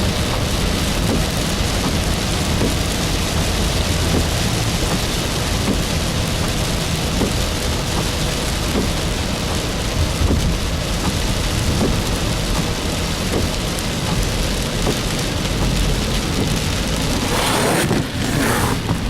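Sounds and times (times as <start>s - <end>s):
heavy rain hitting a vehicle: 0.0s - 19.0s
low road rumble: 0.0s - 19.0s.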